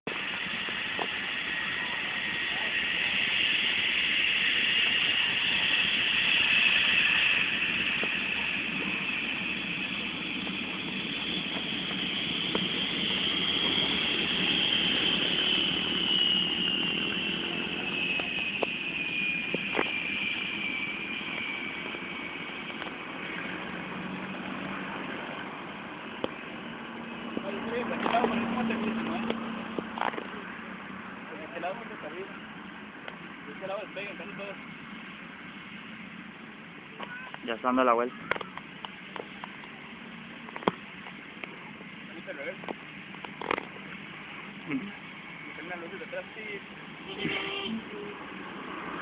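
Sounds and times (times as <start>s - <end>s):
jet engines rushing: 0.1s - 49.0s.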